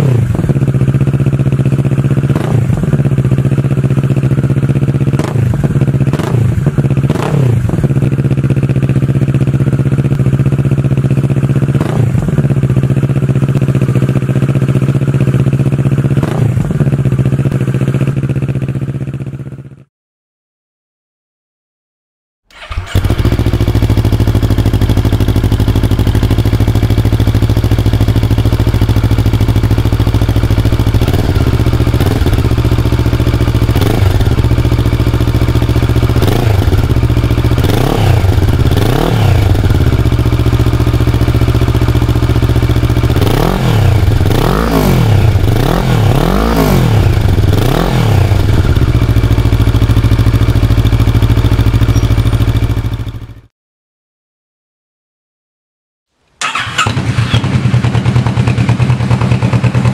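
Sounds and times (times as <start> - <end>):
motorcycle engine revving: 0.0 - 19.8, 22.5 - 53.5, 56.4 - 59.9.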